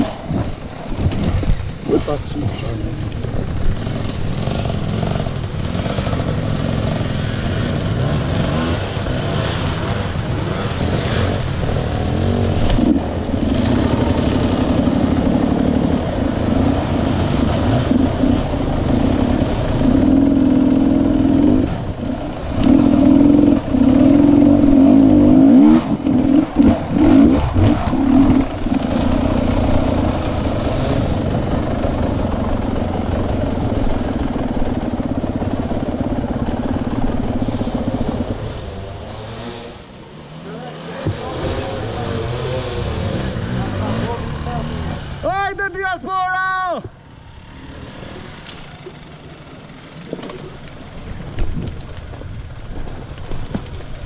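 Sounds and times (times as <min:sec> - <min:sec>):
dirt bike engine revving: 0:00.0 - 0:45.4, 0:46.9 - 0:51.4.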